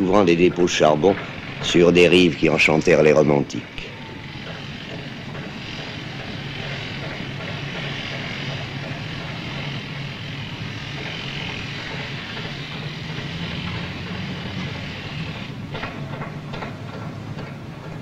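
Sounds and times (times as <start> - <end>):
mechanical drone: 0.0 - 18.0.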